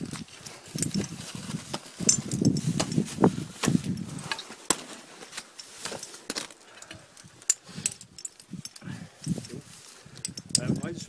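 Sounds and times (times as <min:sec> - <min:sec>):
climbing hardware clinking on rock: 0:00.0 - 0:11.0.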